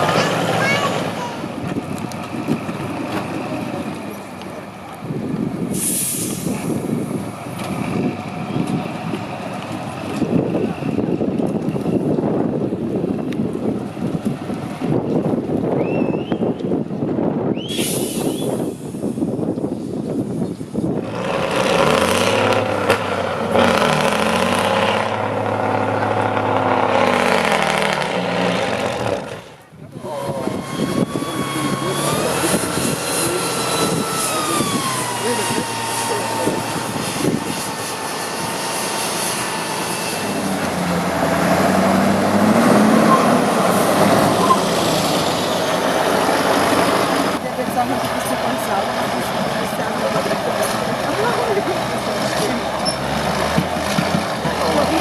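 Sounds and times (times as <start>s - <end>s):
truck diesel engine revving: 0.0s - 16.4s, 20.8s - 55.0s.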